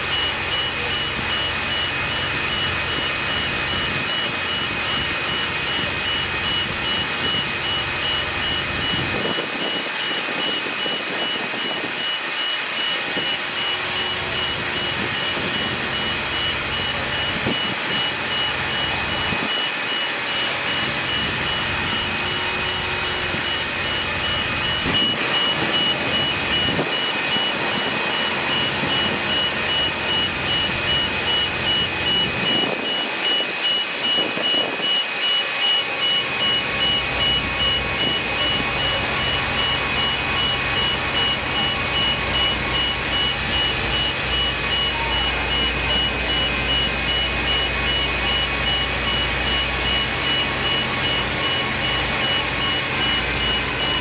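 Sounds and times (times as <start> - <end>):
heavy engine running: 0.0 - 54.0
reversing alarm beeping: 0.0 - 54.0.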